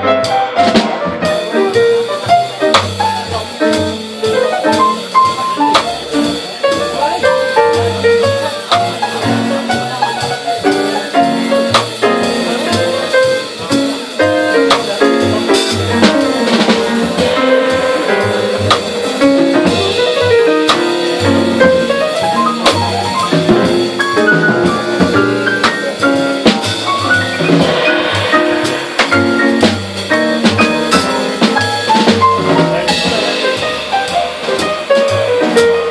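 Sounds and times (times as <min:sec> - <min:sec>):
drum kit with cymbals: 0:00.0 - 0:35.9
piano notes: 0:00.0 - 0:35.9
walking double bass: 0:00.0 - 0:35.9.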